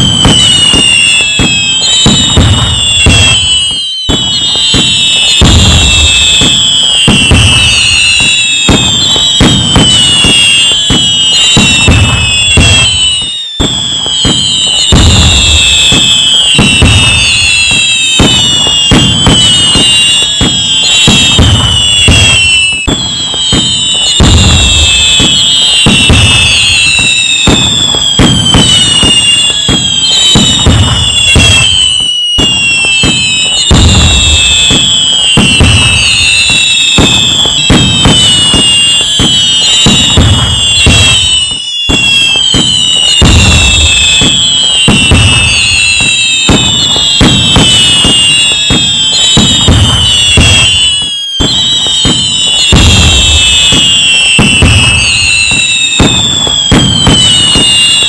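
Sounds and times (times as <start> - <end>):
firework booms: 0.0 - 58.0
firework crackle: 0.0 - 58.0
firework whistles: 0.0 - 58.0.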